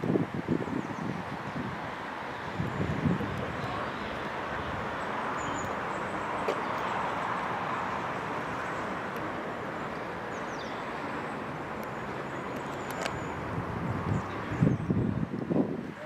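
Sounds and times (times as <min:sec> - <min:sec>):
hum of distant road traffic: 0:00.0 - 0:16.0.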